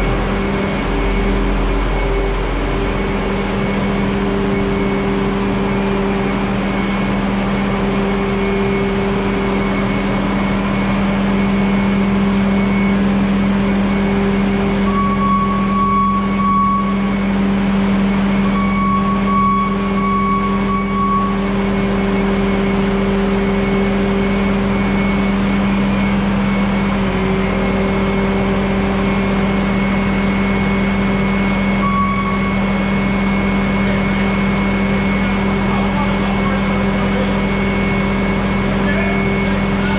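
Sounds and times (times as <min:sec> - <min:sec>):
diesel engine running steadily: 0:00.0 - 0:39.9
high whine: 0:00.0 - 0:39.9.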